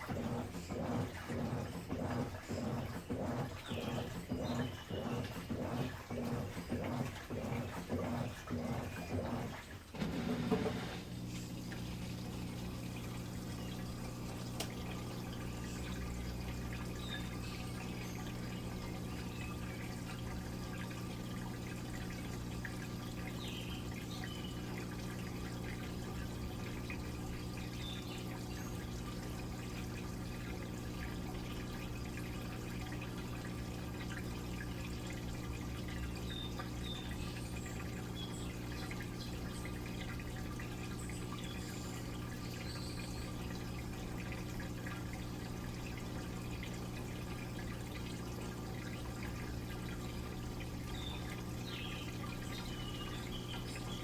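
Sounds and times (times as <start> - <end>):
washing machine humming: 0.0 - 54.0
water trickling and dripping: 0.0 - 54.0.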